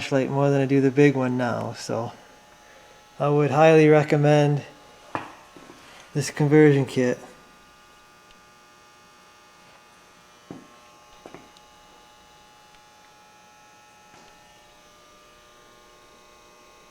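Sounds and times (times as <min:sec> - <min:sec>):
low electrical hum: 0:00.0 - 0:16.9.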